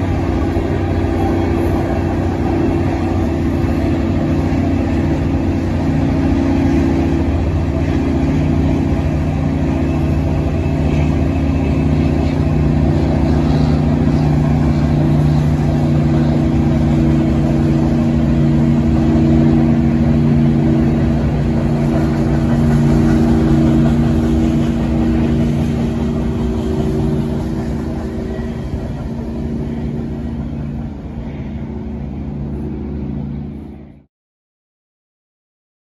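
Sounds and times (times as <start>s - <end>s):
diesel locomotive engine drone: 0.0s - 34.1s.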